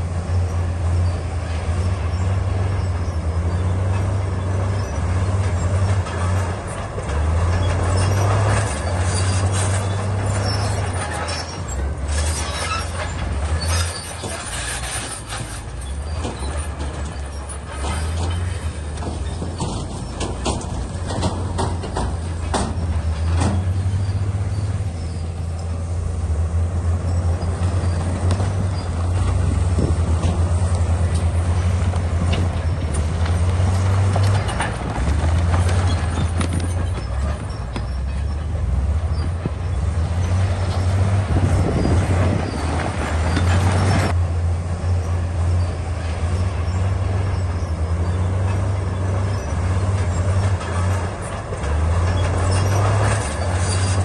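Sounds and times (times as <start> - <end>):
bulldozer engine droning: 0.0 - 54.0.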